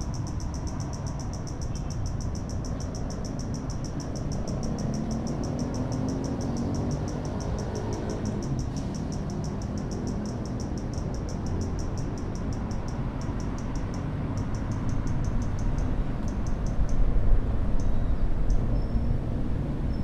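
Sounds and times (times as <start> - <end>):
insect chirping: 0.0 - 19.2
city traffic rumble: 0.0 - 20.0.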